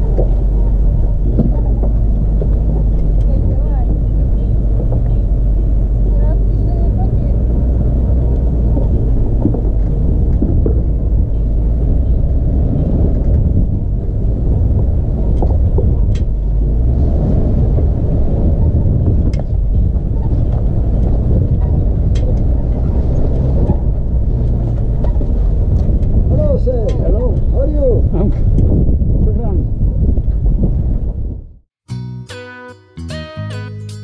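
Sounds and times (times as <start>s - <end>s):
rocks knocking chassis: 0.0s - 27.6s
vehicle engine low rumble: 0.0s - 31.7s.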